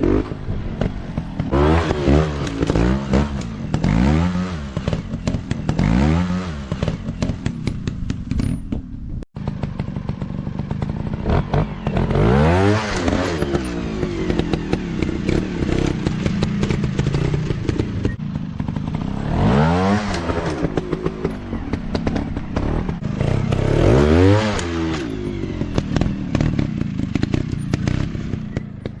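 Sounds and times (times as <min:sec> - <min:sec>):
dirt bike engines revving: 0:00.0 - 0:07.8, 0:09.4 - 0:29.0.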